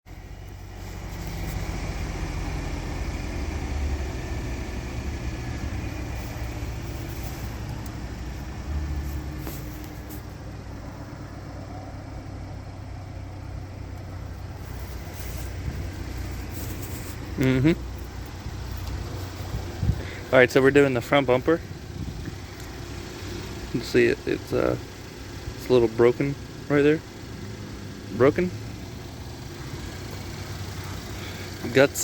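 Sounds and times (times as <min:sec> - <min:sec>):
vehicle rumble: 0:00.0 - 0:32.0.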